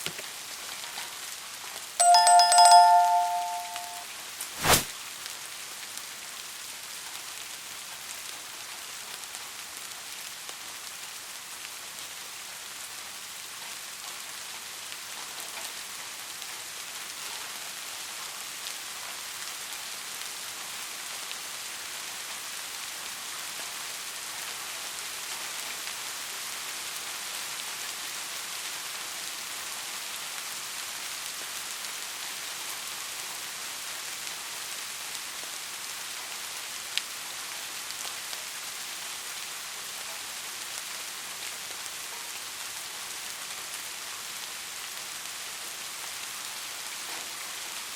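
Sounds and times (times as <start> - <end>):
steady rain falling: 0.0 - 3.4, 4.1 - 47.9.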